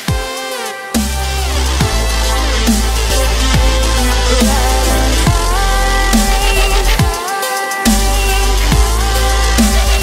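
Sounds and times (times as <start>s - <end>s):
electronic dance music: 0.0s - 10.0s
bass drum beat: 1.0s - 7.3s, 7.9s - 10.0s.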